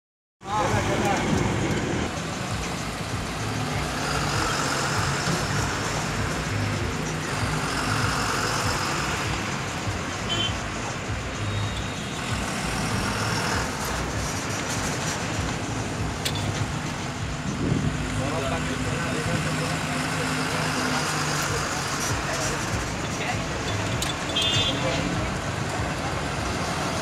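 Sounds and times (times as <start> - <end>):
truck engines rumbling: 0.4 - 27.0
tyres on rough road: 0.4 - 27.0.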